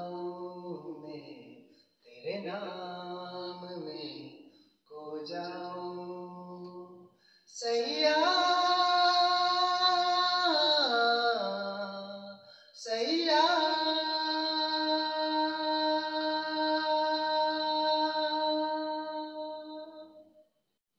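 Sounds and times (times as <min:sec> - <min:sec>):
man singing into microphone: 0:00.0 - 0:20.2.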